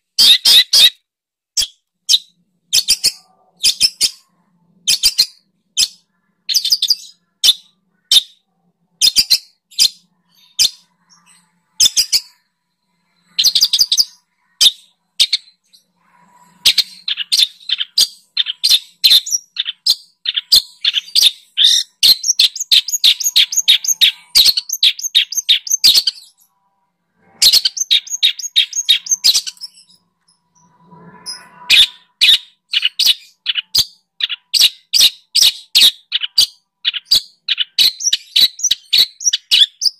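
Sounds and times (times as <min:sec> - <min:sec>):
songbird chirping and trilling: 0:00.0 - 0:01.0, 0:01.6 - 0:39.9.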